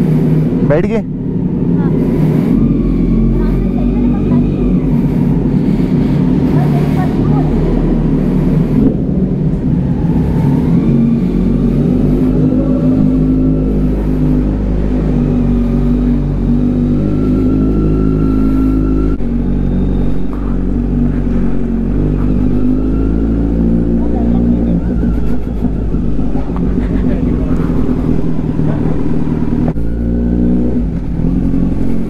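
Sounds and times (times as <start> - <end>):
motorcycle engine running at low revs: 0.0 - 32.0.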